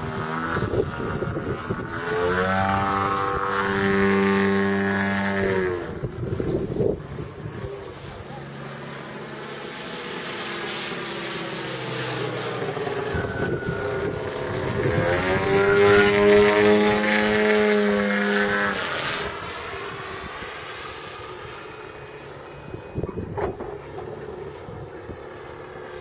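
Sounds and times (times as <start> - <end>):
model plane engine and propeller: 0.0 - 26.0.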